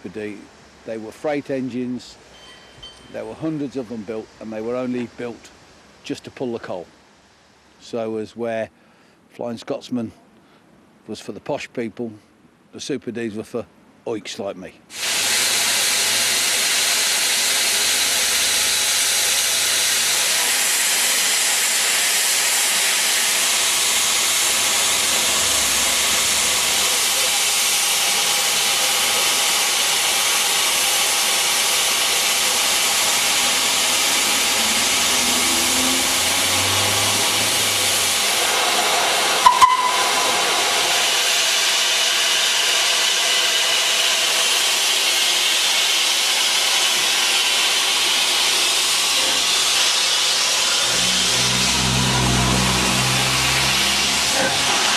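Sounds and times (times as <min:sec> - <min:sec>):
steam locomotive hissing steam: 0:00.0 - 0:07.6, 0:14.9 - 0:54.9.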